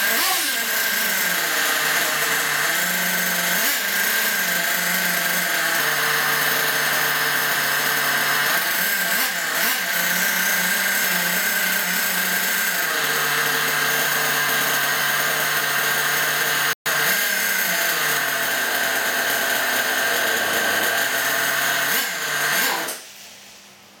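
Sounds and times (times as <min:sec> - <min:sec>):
small nitro engine buzzing: 0:00.0 - 0:23.0.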